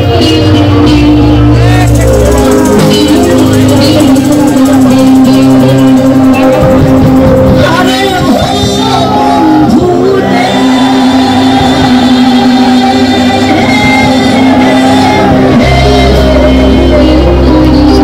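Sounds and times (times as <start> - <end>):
band playing: 0.0 - 18.0
low bass: 0.0 - 18.0
woman singing into a microphone: 0.0 - 18.0.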